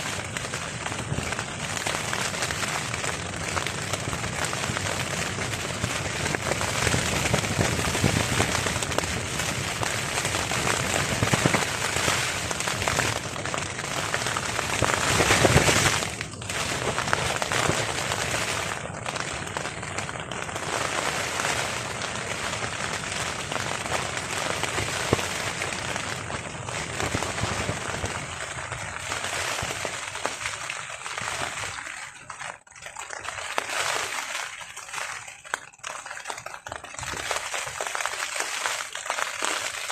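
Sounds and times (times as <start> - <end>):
heavy rain pattering on a tarp: 0.0 - 39.9.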